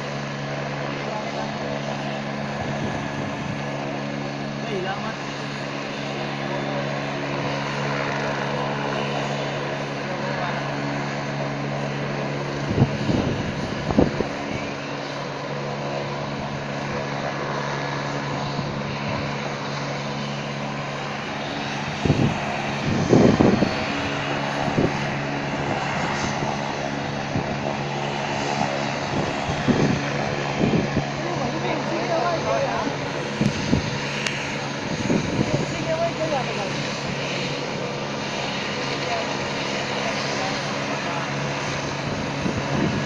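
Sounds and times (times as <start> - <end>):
helicopter running: 0.0 - 43.0.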